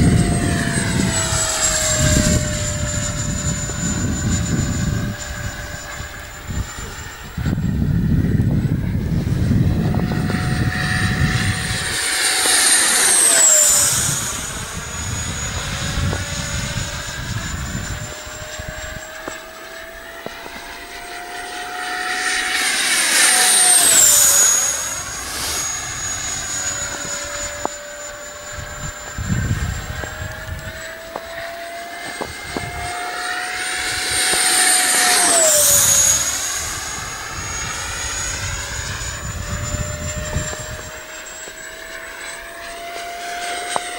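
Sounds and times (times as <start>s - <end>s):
model jet fan whining past: 0.0s - 43.9s.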